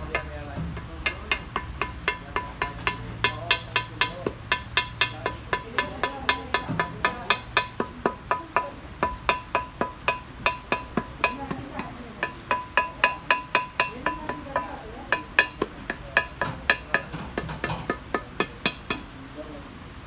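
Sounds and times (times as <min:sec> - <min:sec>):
hammer tapping on metal: 0:00.0 - 0:19.2.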